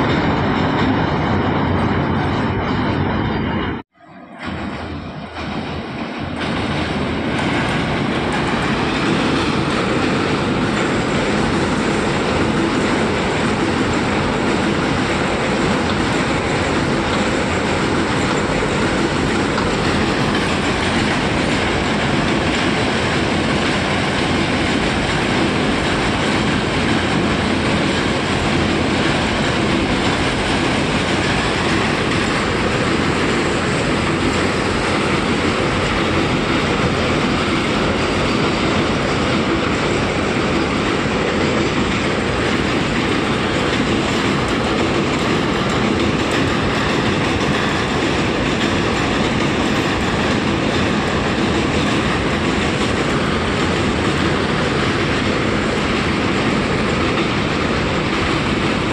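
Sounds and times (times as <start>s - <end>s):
freight train wheels on rails: 0.0s - 58.9s.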